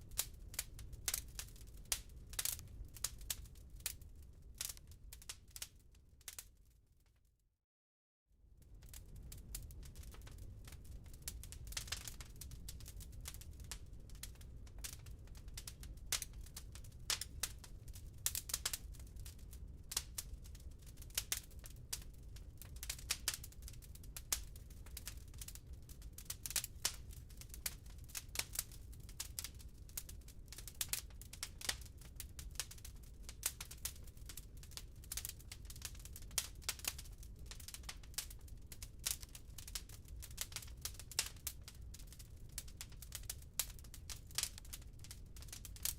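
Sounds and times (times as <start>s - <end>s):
low rumble of flames: 0.0s - 7.0s, 8.4s - 45.9s
logs crackling and popping: 0.1s - 6.5s, 8.8s - 45.9s.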